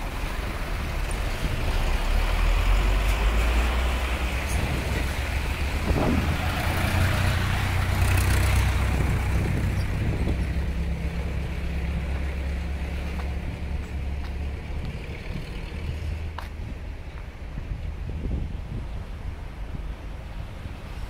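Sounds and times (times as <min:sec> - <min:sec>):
truck diesel engines droning: 0:00.0 - 0:21.0.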